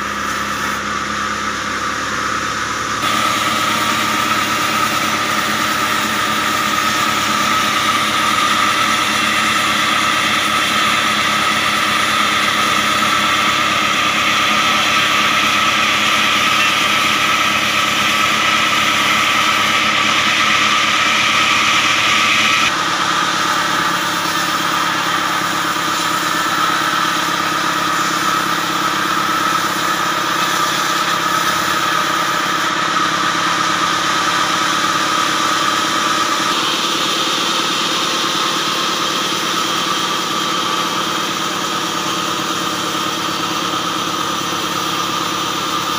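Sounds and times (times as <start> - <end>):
band saw high whine: 0.0 - 45.9
diesel engine running: 0.0 - 45.9.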